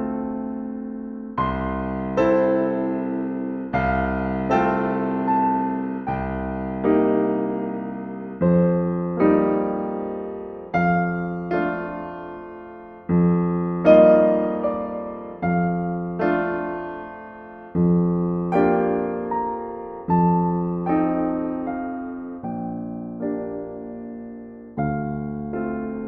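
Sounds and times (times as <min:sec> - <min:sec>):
slow gentle piano chords: 0:00.0 - 0:26.0.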